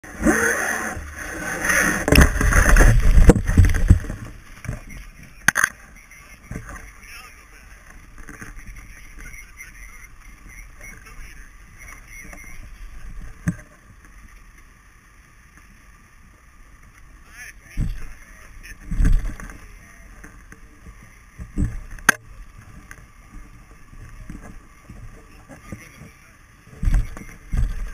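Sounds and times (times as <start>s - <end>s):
water splashing against boat: 0.0s - 27.9s.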